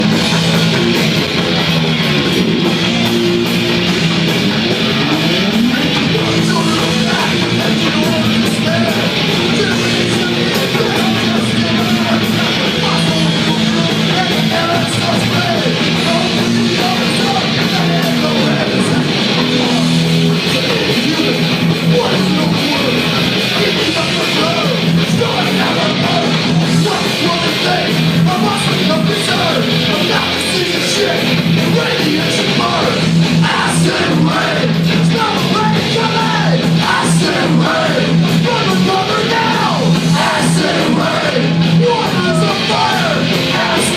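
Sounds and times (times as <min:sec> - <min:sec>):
distorted electric guitar riffs: 0:00.0 - 0:43.9
thrash band playing live: 0:00.0 - 0:43.9.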